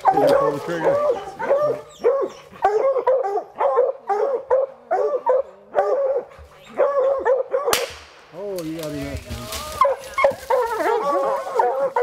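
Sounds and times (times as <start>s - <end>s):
hounds barking: 0.0s - 7.8s, 9.7s - 12.0s.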